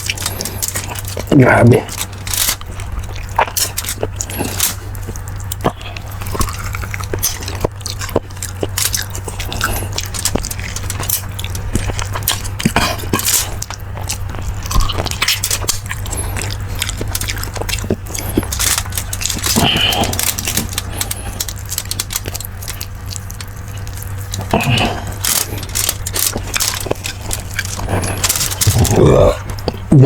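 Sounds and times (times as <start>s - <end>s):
person chewing and smacking: 0.0s - 30.0s
steady low hum: 0.0s - 30.0s.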